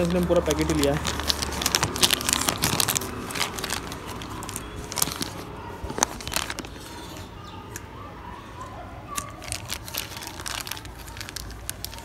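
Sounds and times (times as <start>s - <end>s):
packet crinkling and clicking: 0.0s - 7.1s, 9.1s - 12.0s.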